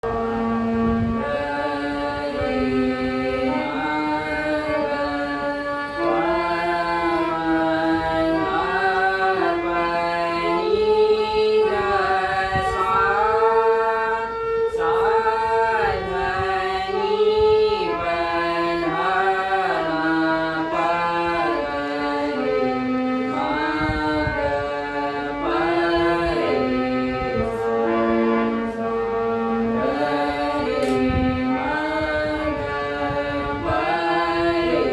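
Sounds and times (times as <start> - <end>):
person singing classical melody: 0.0 - 34.9.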